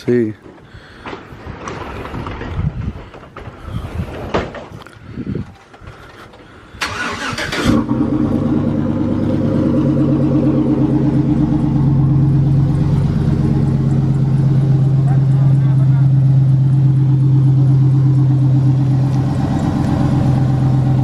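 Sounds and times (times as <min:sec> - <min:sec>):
truck engine cranking and idling: 0:00.0 - 0:21.0.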